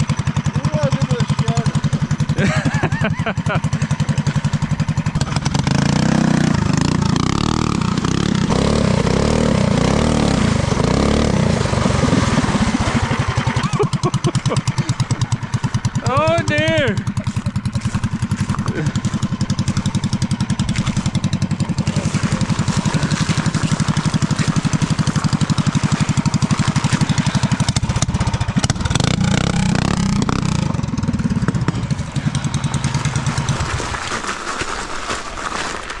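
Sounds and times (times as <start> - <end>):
small gas engine pulsing: 0.0 - 36.0.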